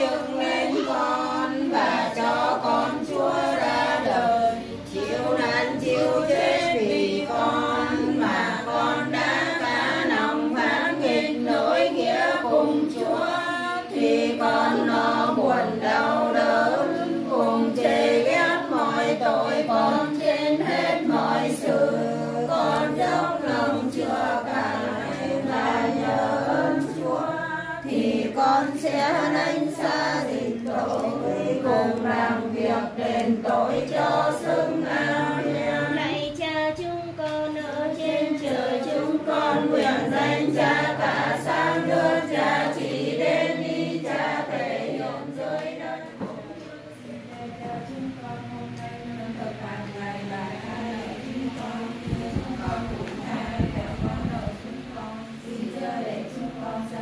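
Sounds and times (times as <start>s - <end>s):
women chanting prayers: 0.0s - 57.0s.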